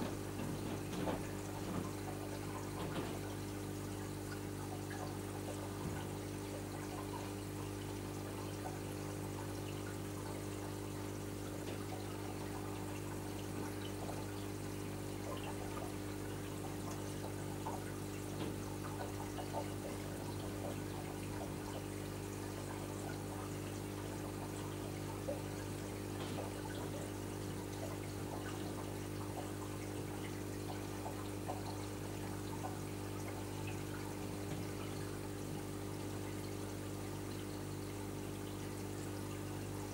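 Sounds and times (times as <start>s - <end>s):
aquarium pumps humming: 0.0s - 39.9s
water trickling and splashing: 0.0s - 39.9s.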